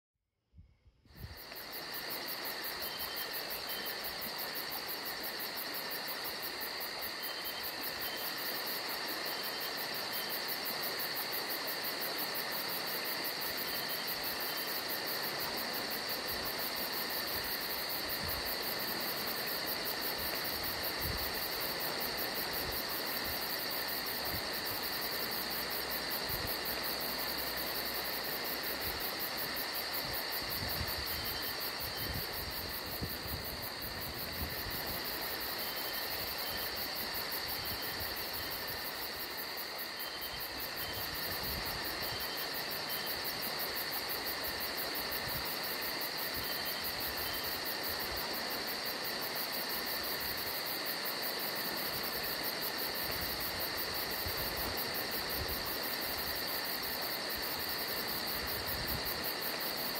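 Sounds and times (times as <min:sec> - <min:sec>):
crickets and insects trilling: 0:01.0 - 0:59.9.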